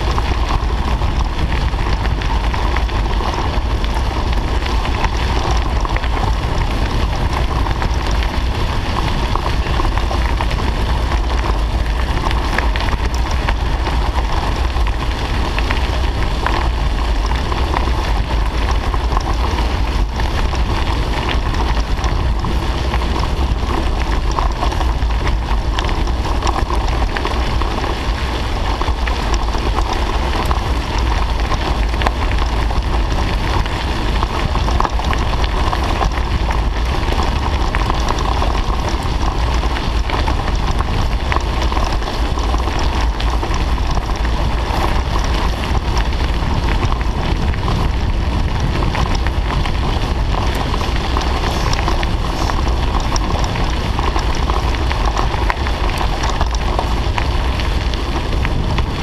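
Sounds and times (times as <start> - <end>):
bicycle tyres on gravel: 0.0 - 59.0
wind on microphone: 0.0 - 59.0.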